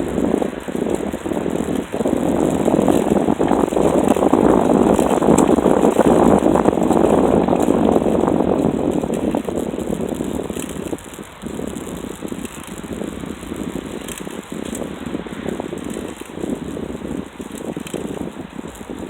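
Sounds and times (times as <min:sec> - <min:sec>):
bicycle rattling and rumbling: 0:00.0 - 0:19.0.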